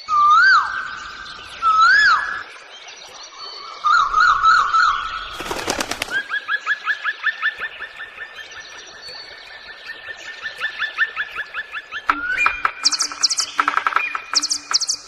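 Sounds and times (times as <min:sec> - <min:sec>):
birds whistling and chirping: 0:00.0 - 0:15.0.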